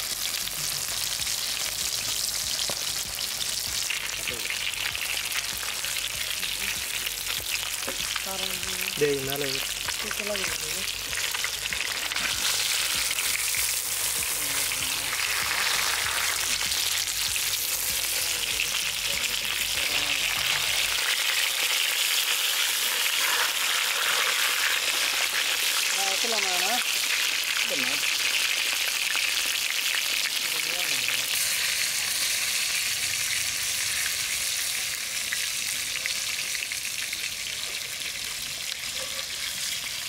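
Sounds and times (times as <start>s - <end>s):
hot oil sizzling: 0.0s - 40.0s.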